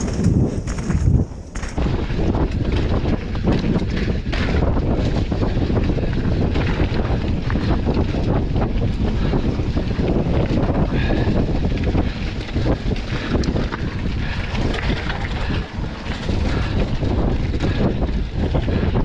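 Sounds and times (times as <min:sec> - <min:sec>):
bike knocking and rattling: 0:00.0 - 0:19.0
tyres rumbling over dirt: 0:00.0 - 0:19.0
wind buffeting microphone: 0:00.0 - 0:19.0.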